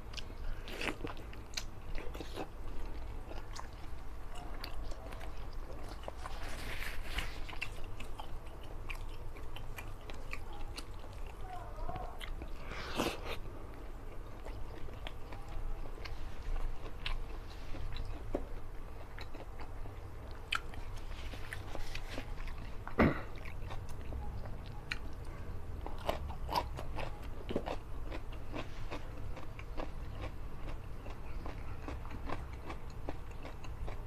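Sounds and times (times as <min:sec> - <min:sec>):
chewing and mouth sounds: 0:00.0 - 0:34.0.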